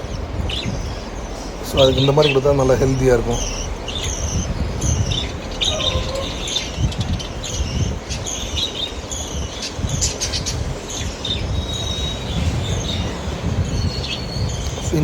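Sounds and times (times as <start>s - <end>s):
budgerigars chirping: 0.0s - 15.0s
low rumble: 0.0s - 15.0s.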